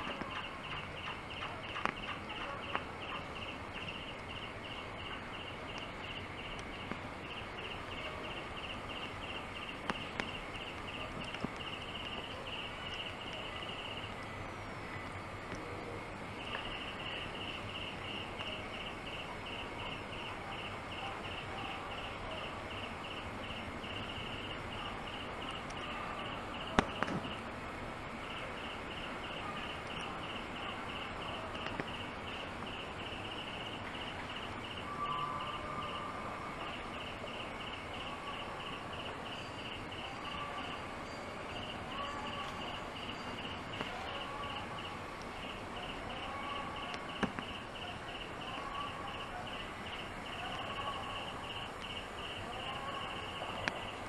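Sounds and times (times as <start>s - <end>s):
insect chirping: 0.0s - 54.0s.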